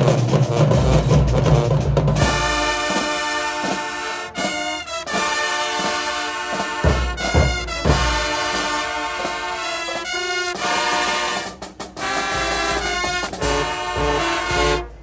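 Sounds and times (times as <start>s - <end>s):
brass section holding chords: 0.0s - 15.0s.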